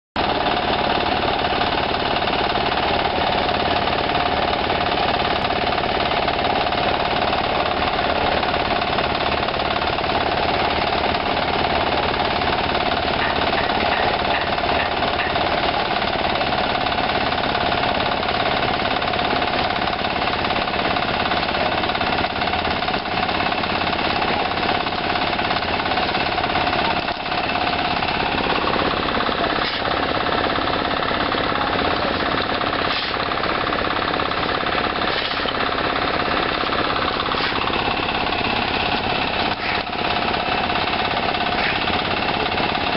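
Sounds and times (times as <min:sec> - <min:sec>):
concrete machinery rattling: 0:00.2 - 0:42.9.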